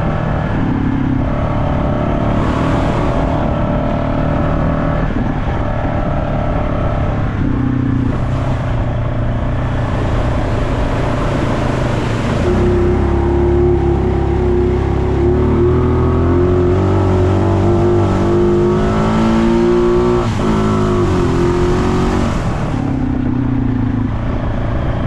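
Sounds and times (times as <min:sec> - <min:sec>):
off-road vehicle engine revving: 0:00.0 - 0:25.0.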